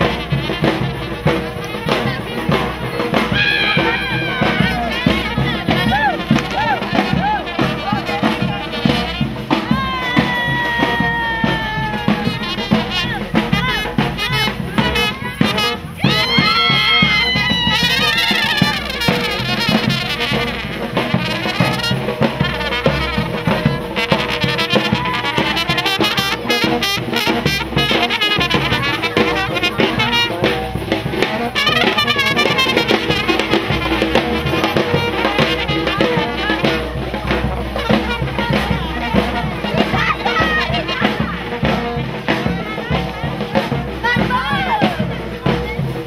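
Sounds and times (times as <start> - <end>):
horn playing fast melody: 0.0 - 45.9
brass band playing dance music: 0.0 - 46.0.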